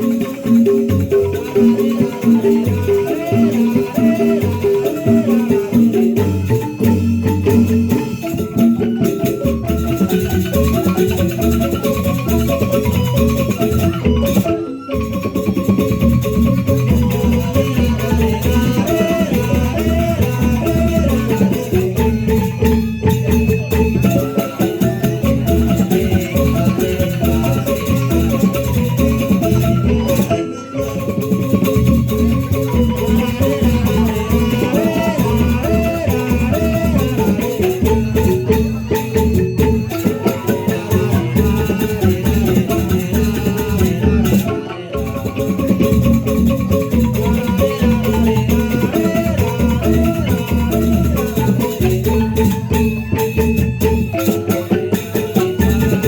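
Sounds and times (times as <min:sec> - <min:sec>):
rhythmic beat with rattles: 0:00.0 - 0:56.0
tuned mallet percussion: 0:00.0 - 0:56.0.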